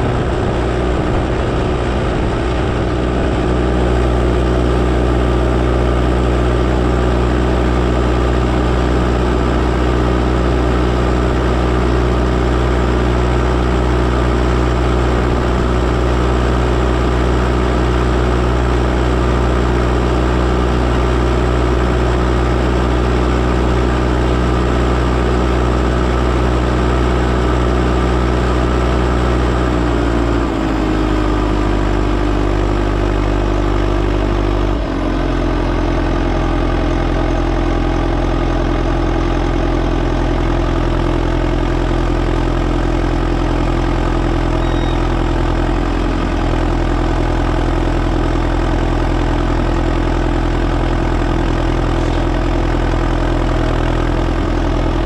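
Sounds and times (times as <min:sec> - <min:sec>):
diesel engine of backhoe loader: 0:00.0 - 0:55.0.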